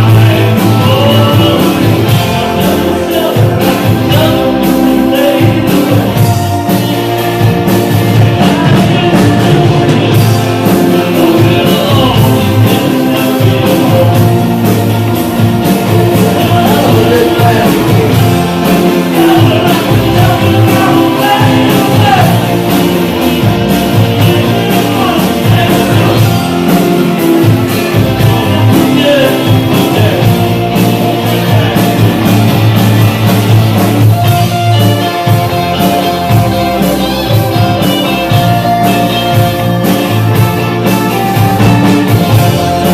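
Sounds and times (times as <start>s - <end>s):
electric guitar: 0.0s - 42.9s
rock band playing: 0.0s - 42.9s
steady drum beat: 0.0s - 42.9s.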